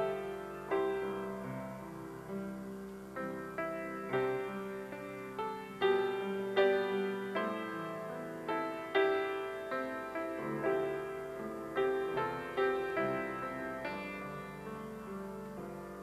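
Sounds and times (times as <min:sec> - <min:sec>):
slow gentle piano piece: 0:00.0 - 0:16.0.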